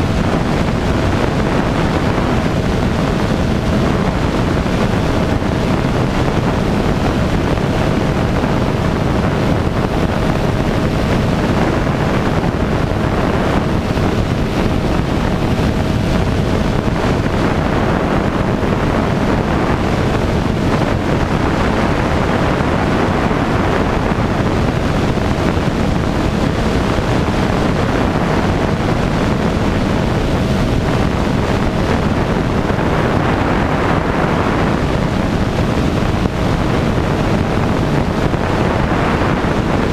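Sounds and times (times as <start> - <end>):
light aircraft engine and propeller: 0.0 - 39.9
wind rushing over microphone: 0.0 - 39.9.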